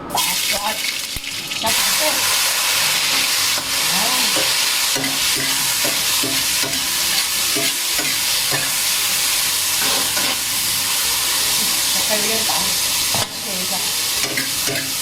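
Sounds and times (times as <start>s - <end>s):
mushrooms sizzling in a pan: 0.2s - 15.0s.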